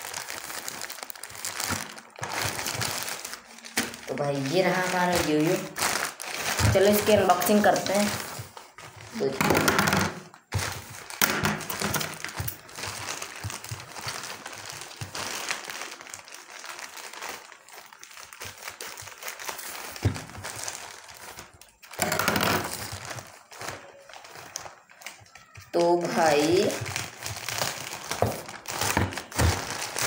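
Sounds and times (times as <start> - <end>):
packaging wrapper crinkling: 0.0 - 30.0.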